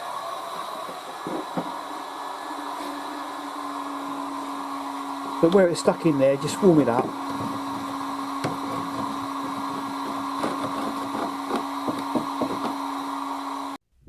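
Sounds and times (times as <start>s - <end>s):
heat gun running: 0.0s - 13.8s.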